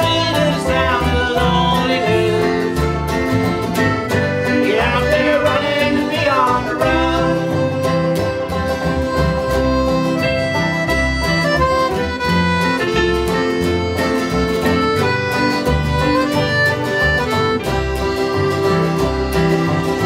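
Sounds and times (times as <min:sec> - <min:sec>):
instrumental band music: 0:00.0 - 0:20.0.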